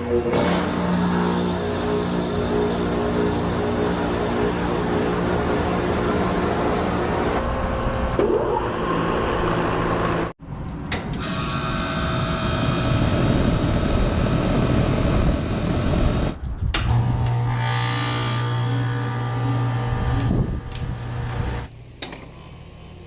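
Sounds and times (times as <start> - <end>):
air conditioning units running: 0.0 - 8.2, 10.9 - 23.0
strong low hum: 0.0 - 22.0.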